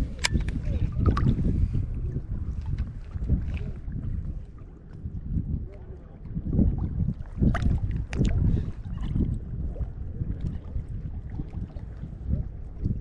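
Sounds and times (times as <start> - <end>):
water sloshing and lapping: 0.0 - 13.0
water splashes: 0.0 - 13.0
wind on microphone: 0.0 - 13.0.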